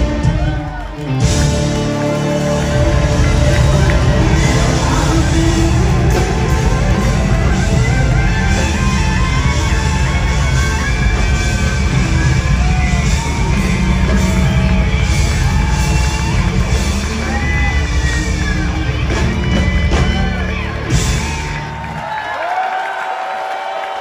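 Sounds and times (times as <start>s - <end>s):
rock band playing live: 0.0s - 22.0s
crowd whooping and cheering: 0.0s - 24.0s.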